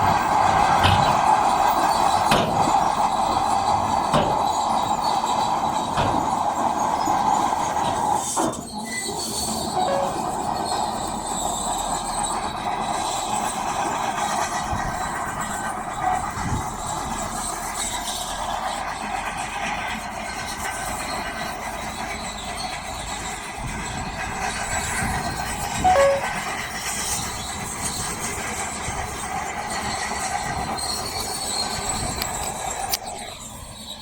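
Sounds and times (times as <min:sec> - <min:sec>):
bulldozer diesel engine under load: 0:00.0 - 0:34.0
steel tracks clanking and squealing: 0:00.0 - 0:34.0.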